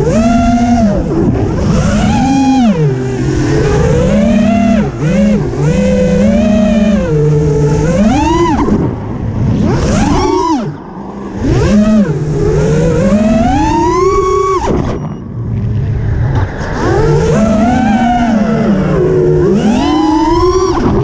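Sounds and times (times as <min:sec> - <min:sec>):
engine revving: 0:00.0 - 0:21.0
wind buffeting microphone: 0:00.0 - 0:21.0.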